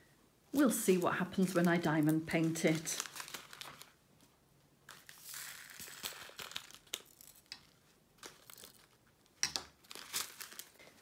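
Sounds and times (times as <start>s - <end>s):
plastic bags crinkling: 0.6s - 4.0s, 4.9s - 11.0s.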